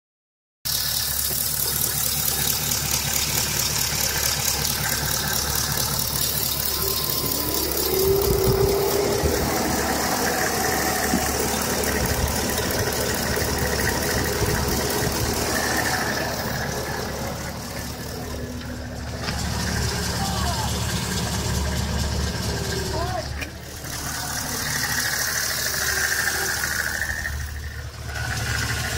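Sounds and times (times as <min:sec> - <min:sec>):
car engine idling: 0:00.7 - 0:28.9.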